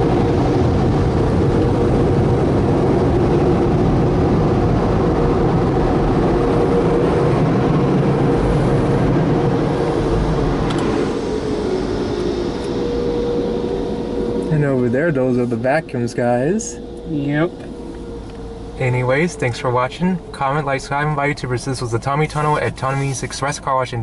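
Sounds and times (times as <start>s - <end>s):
blower dryers rushing air: 0.0s - 24.0s.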